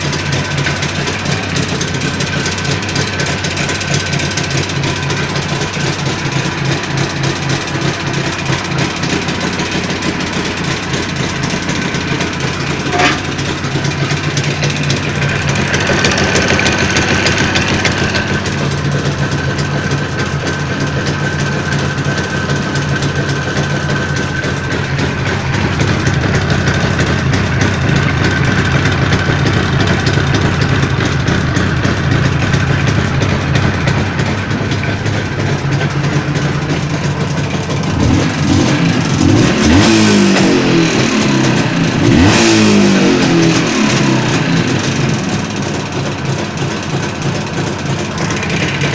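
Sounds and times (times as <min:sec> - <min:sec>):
engine knocking: 0:00.0 - 0:48.9
motorcycle engine idling and revving: 0:00.0 - 0:48.9.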